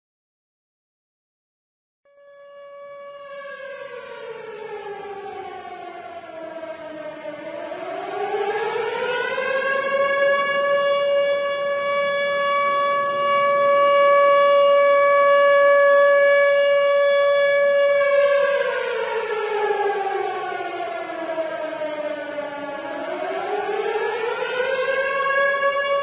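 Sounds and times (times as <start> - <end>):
warning siren wailing: 2.1 - 26.0.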